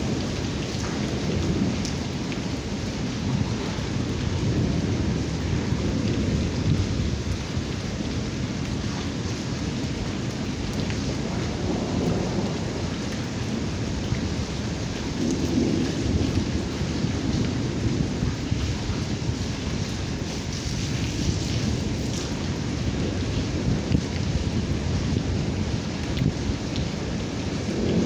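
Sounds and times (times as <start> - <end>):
heavy rain on wet ground: 0.0 - 28.0
low rumble of thunder: 0.0 - 28.0.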